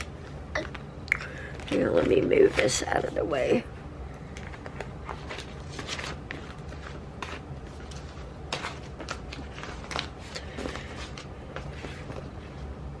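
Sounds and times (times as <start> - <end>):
steady low hum: 0.0 - 13.0
paper and desk items handled: 1.4 - 3.6, 4.2 - 12.8.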